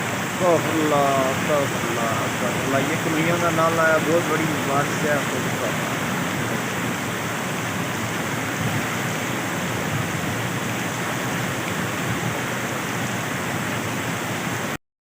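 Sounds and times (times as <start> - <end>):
river water rushing: 0.0 - 14.8.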